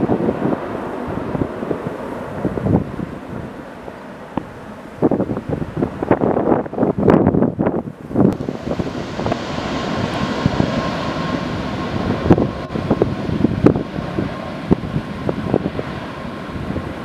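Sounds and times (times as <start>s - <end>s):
jet engines rushing with whine: 0.0s - 17.0s
wind buffeting microphone: 0.0s - 17.0s.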